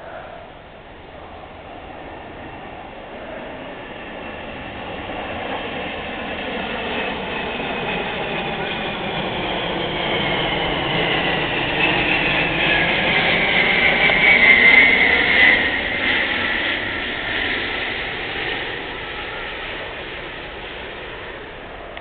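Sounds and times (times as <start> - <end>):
high jet engine whine: 0.0 - 22.0
jet aircraft roar overhead: 0.0 - 22.0.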